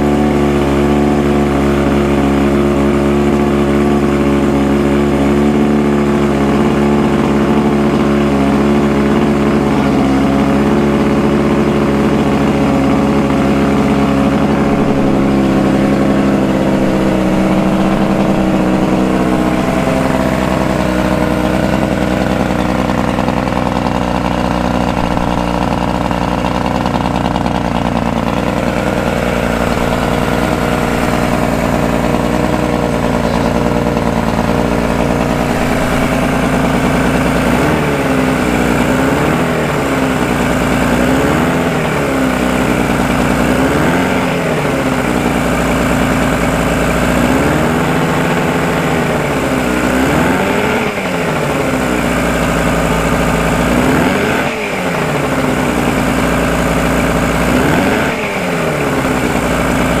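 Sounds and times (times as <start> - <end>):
outboard motor revving: 0.0 - 60.0.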